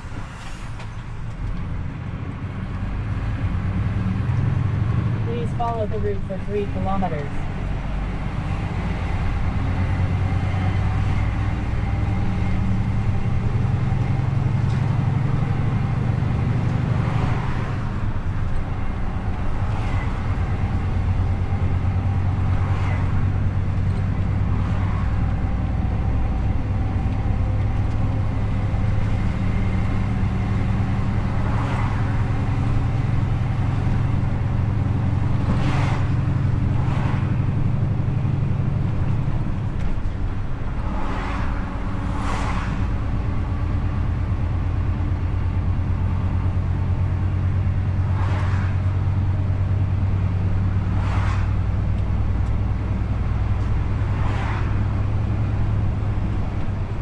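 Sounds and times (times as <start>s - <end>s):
truck diesel engine drone: 0.0s - 57.0s
tyre and road noise: 0.0s - 57.0s.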